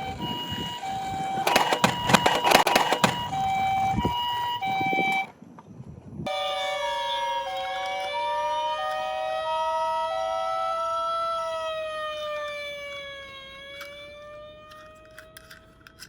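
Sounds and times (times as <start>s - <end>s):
rising and falling siren tone: 0.0s - 5.3s, 6.3s - 15.5s
two-tone toy siren: 0.0s - 5.3s, 6.3s - 16.0s.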